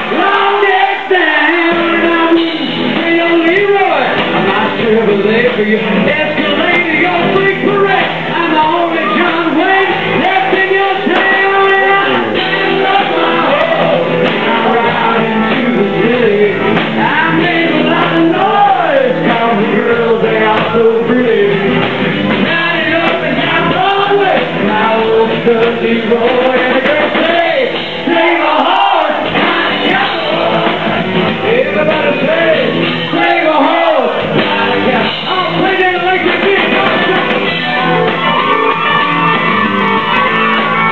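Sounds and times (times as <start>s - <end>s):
man singing lead vocal: 0.0s - 38.2s
acoustic guitar: 0.0s - 40.9s
live country-rock band: 0.0s - 40.9s.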